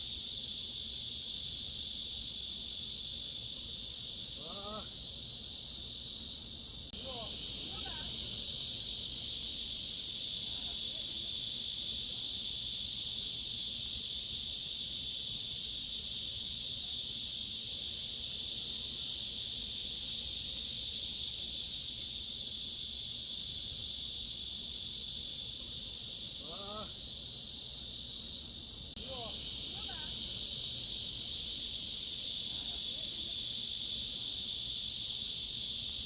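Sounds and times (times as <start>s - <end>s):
cicadas buzzing: 0.0s - 36.0s.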